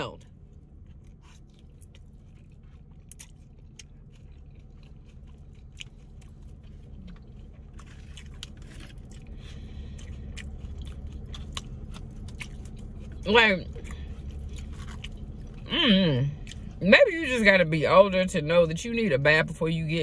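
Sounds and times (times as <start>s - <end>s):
chewing salad: 0.0s - 17.5s.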